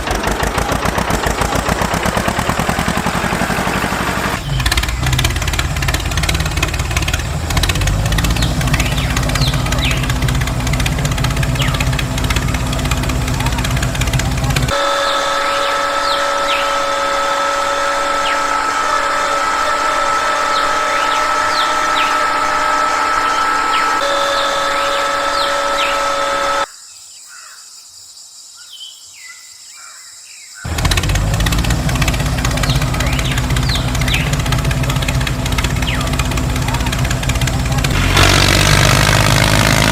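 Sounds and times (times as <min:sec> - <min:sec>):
two-tone drone: 0:00.0 - 0:26.7, 0:30.7 - 0:39.9
birds chirping: 0:04.1 - 0:39.9.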